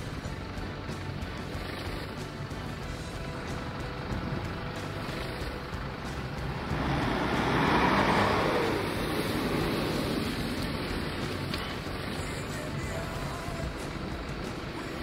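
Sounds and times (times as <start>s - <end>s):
engine pulling hard: 0.0s - 15.0s.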